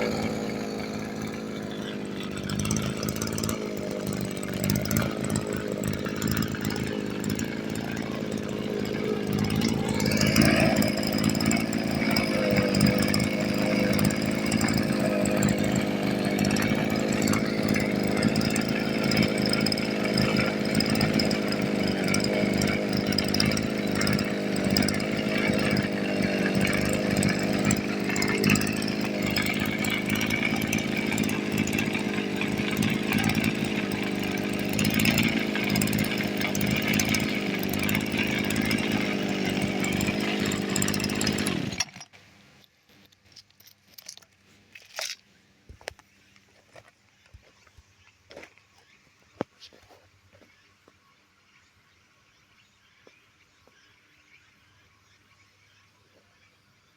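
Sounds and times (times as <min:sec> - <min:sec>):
brush cutter engine running: 0:00.0 - 0:46.0.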